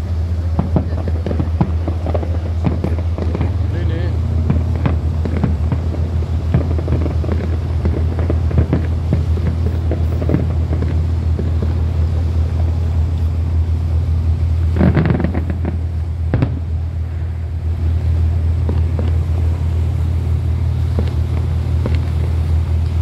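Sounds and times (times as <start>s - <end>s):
sharp crack: 0.0s - 13.6s, 14.6s - 23.0s
boat engine droning: 0.0s - 23.0s
short noisy burst: 0.0s - 23.0s.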